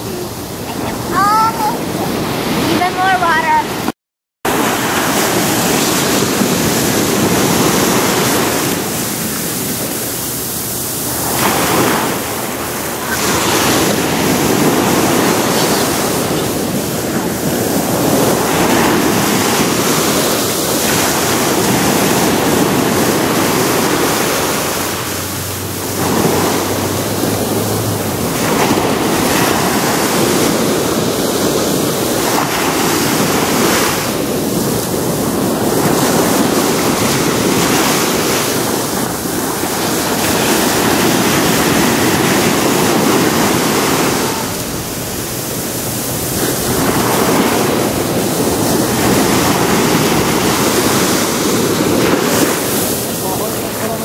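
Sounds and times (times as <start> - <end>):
ocean waves crashing on beach: 0.0 - 3.9, 4.5 - 54.0.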